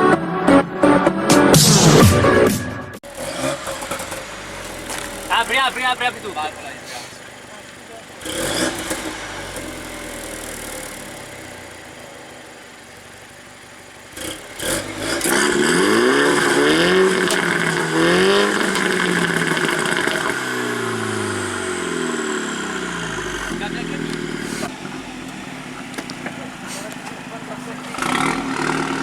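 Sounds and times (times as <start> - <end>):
car engine revving and accelerating: 3.0 - 29.0.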